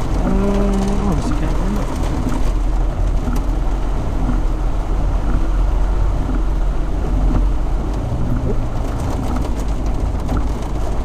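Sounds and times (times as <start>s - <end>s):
engine and drivetrain drone: 0.0s - 11.0s.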